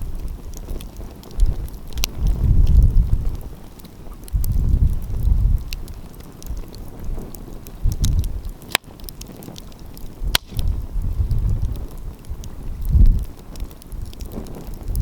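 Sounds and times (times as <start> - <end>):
wind rumbling on microphone: 0.0 - 15.0
wood fire crackling and popping: 0.0 - 15.0.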